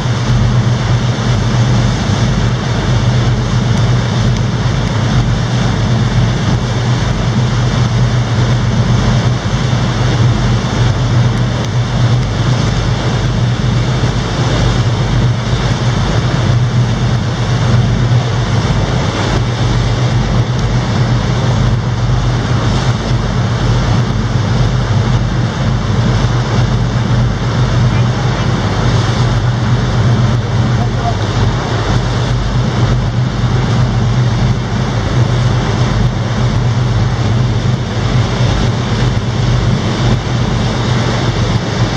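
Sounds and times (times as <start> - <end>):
boat engine humming: 0.0 - 41.9
rushing water: 0.0 - 41.9
wind: 0.0 - 41.9.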